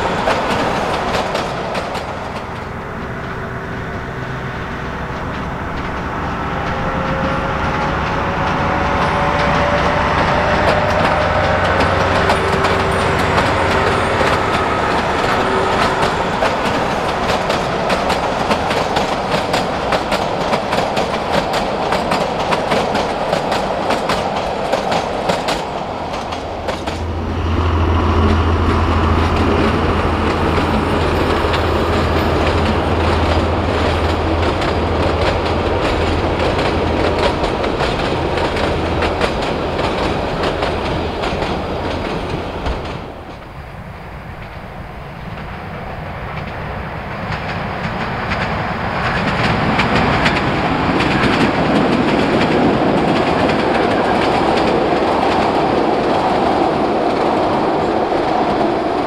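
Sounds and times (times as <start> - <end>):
diesel locomotive engine: 0.0 - 59.0
wheels clicking over rail joints: 5.1 - 27.2, 28.2 - 43.5, 46.3 - 59.0.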